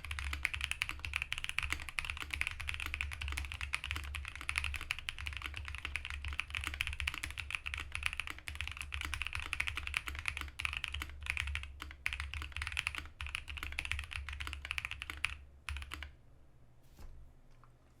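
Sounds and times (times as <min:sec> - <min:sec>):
mechanical keyboard typing: 0:00.0 - 0:16.1.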